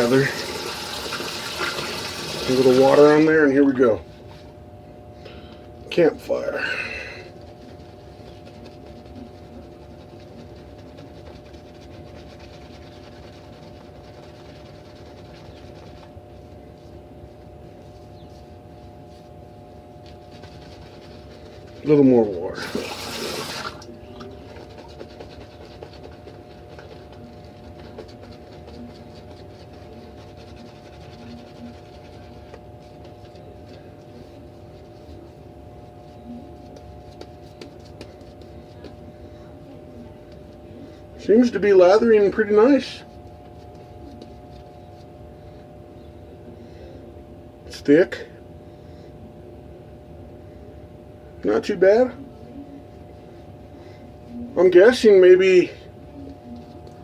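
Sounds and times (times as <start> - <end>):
shaving brush scratching on face: 0.0 - 4.6, 5.9 - 45.4, 54.4 - 57.0
steady background hum: 0.0 - 57.0.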